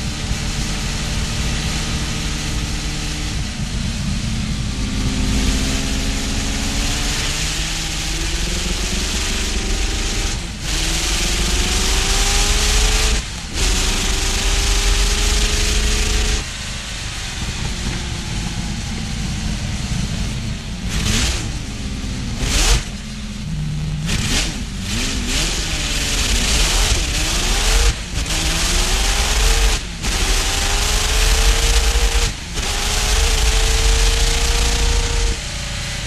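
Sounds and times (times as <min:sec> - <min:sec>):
racing car engine accelerating: 0:00.0 - 0:36.0.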